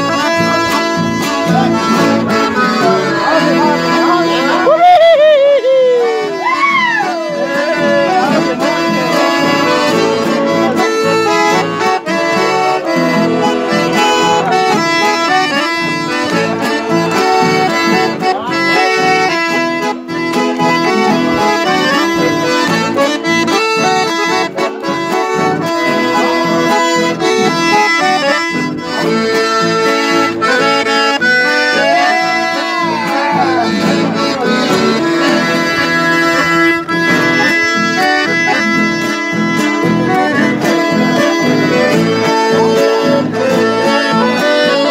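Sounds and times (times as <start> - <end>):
piano accordion playing chords: 0.0 - 4.8, 5.6 - 44.9.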